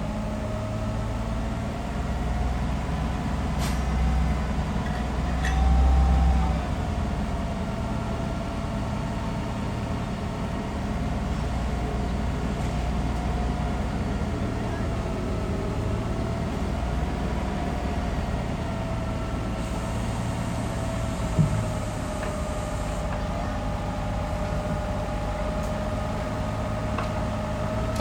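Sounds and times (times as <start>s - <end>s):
heavy diesel machinery running: 0.0s - 28.0s.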